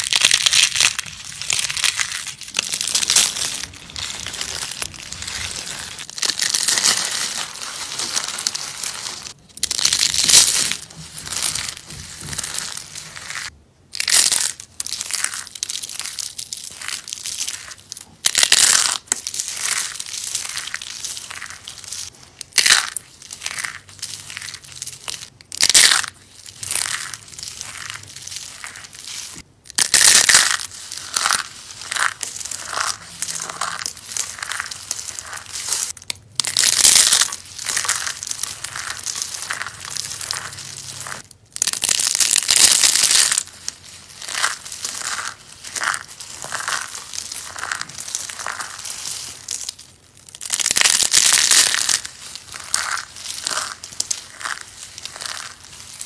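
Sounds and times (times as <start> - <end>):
soap crunching and crumbling: 0.0 - 56.0.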